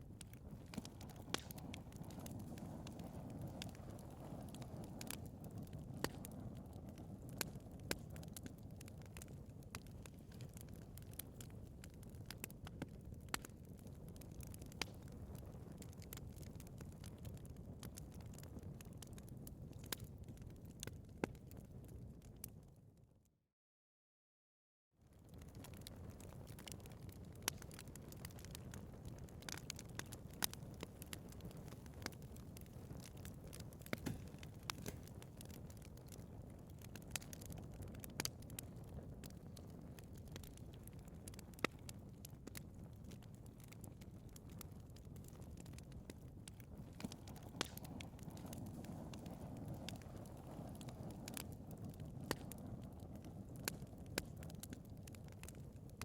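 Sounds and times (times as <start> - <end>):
wood fire crackling: 0.0 - 22.7, 25.1 - 56.0
low rumble of flames: 0.0 - 23.1, 25.0 - 56.0.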